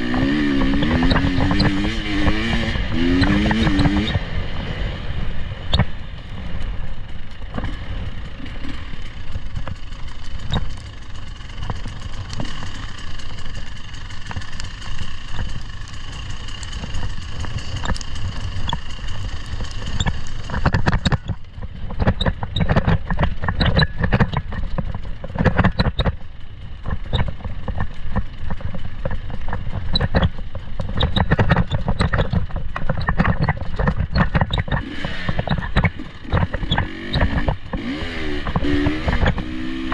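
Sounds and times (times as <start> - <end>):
off-road vehicle engine running: 0.0 - 39.9
knocks and rattles: 7.3 - 39.9.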